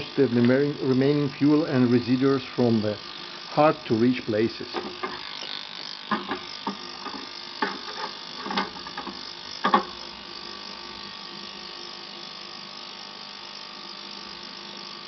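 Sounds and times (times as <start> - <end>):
ultrasonic cleaner hum: 0.0 - 15.0.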